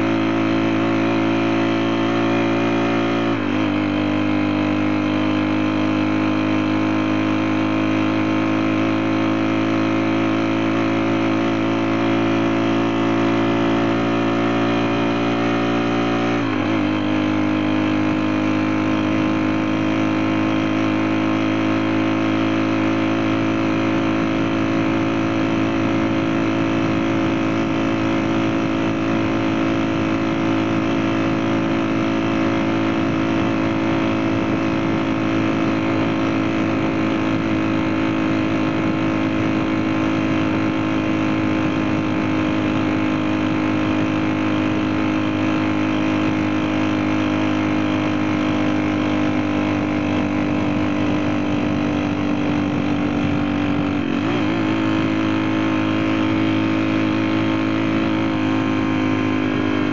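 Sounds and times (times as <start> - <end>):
small motorcycle engine running: 0.0 - 59.9.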